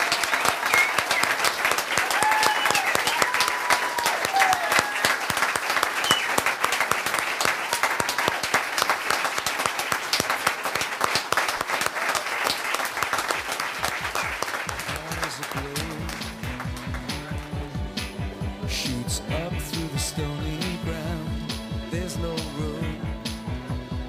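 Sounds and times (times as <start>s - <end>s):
audience applauding: 0.0s - 21.6s.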